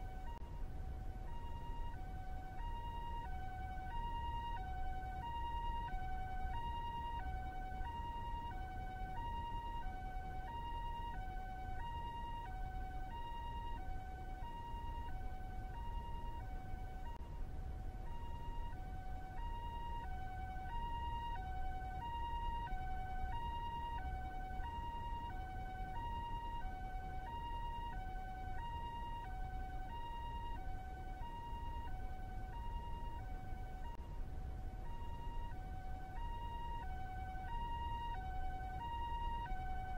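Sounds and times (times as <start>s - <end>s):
low rumble of city ambience: 0.0s - 39.9s
two-tone ambulance siren: 0.0s - 39.9s.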